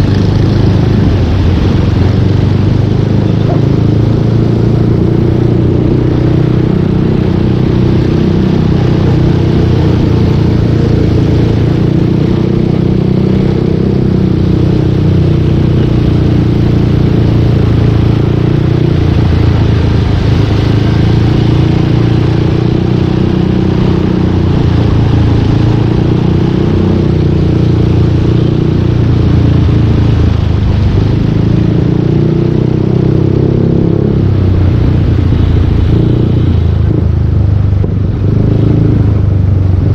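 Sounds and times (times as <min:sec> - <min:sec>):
scooter engine while riding: 0:00.0 - 0:39.9.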